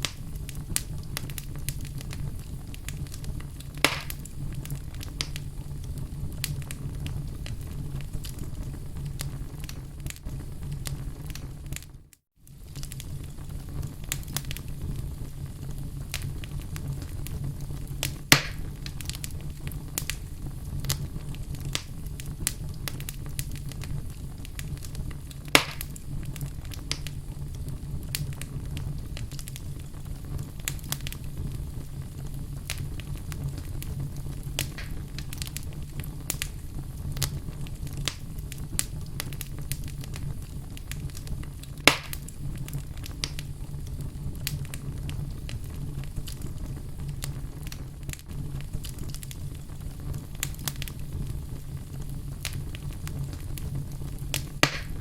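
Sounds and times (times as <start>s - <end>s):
loud pops from burning logs: 0.0s - 55.0s
wood fire crackling: 0.0s - 55.0s.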